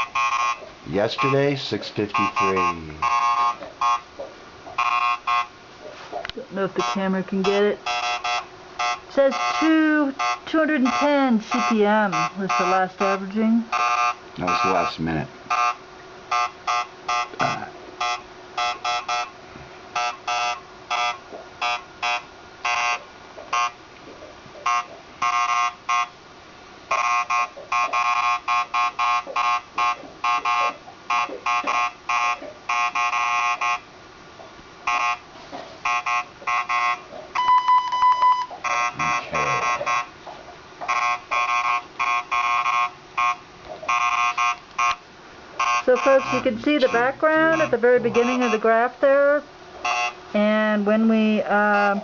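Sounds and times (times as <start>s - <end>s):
geiger counter beeping: 0.0s - 4.1s, 4.8s - 5.5s, 6.5s - 19.4s, 20.0s - 23.8s, 24.6s - 26.2s, 26.9s - 33.8s, 34.9s - 35.2s, 35.8s - 40.2s, 40.8s - 45.0s, 45.6s - 50.6s
long steady beep: 0.0s - 4.1s, 4.8s - 5.5s, 6.6s - 23.8s, 24.7s - 26.2s, 26.9s - 33.8s, 34.9s - 35.2s, 35.8s - 40.1s, 40.8s - 45.0s, 45.6s - 48.8s, 49.8s - 50.2s.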